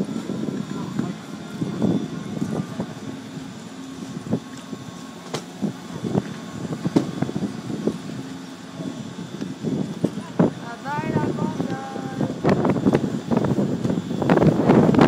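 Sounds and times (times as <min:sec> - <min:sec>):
lift machinery humming: 0:00.0 - 0:15.0.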